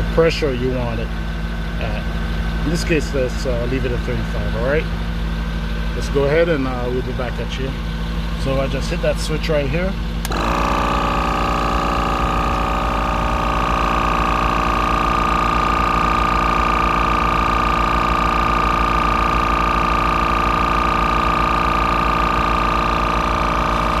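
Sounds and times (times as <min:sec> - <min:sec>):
air compressor whining: 0:00.0 - 0:24.0.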